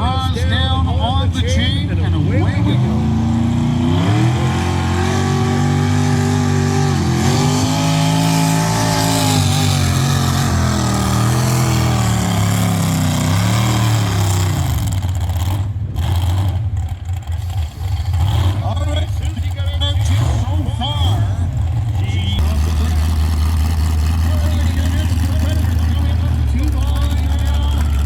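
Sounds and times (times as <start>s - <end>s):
tractor engine at high revs: 0.0s - 28.0s.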